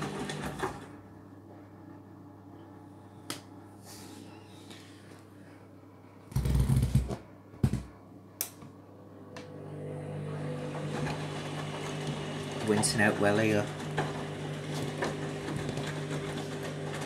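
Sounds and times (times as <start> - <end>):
washing machine motor hum: 0.0 - 4.6, 5.4 - 17.0.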